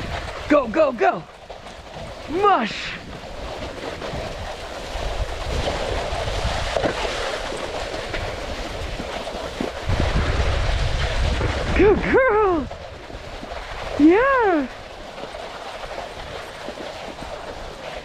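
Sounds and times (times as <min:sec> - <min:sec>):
snowboard scraping over snow: 0:00.0 - 0:00.8, 0:01.6 - 0:18.0
wind rumbling on microphone: 0:00.0 - 0:18.0.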